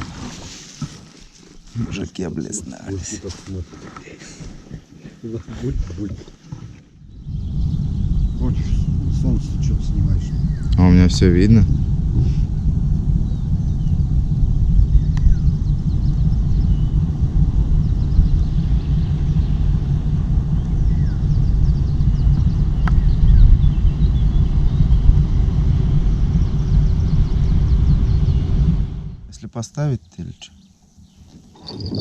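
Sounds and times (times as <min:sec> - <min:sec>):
wind buffeting microphone: 0:01.8 - 0:29.4, 0:30.9 - 0:32.0.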